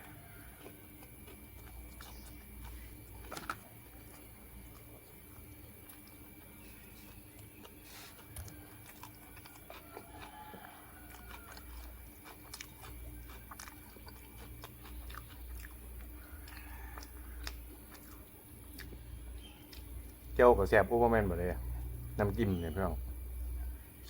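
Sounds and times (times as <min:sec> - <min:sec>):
man chewing food: 0:00.0 - 0:22.4.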